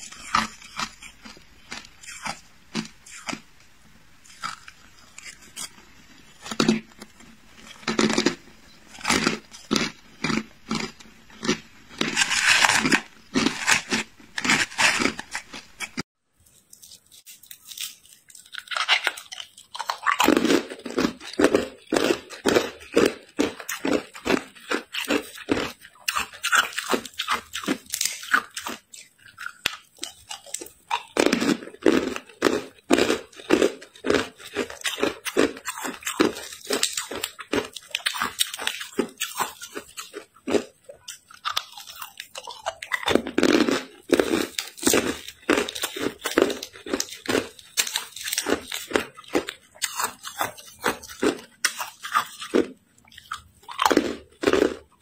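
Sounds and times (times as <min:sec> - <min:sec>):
ice crunching being chewed: 0:00.0 - 0:03.5, 0:04.2 - 0:55.0.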